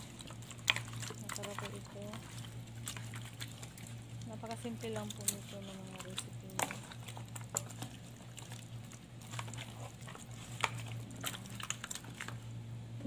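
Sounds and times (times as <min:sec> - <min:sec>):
wet squelches of handled meat: 0:00.0 - 0:12.6.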